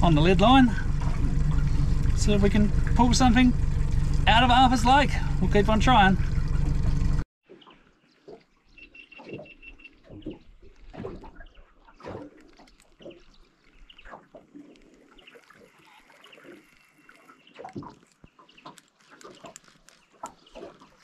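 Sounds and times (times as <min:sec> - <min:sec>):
waves lapping against metal hull: 0:00.0 - 0:21.0.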